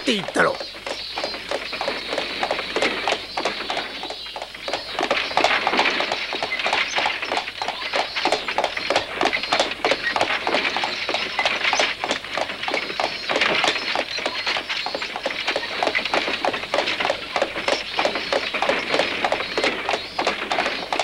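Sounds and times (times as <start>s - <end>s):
horse hooves clip-clopping: 0.0s - 21.0s.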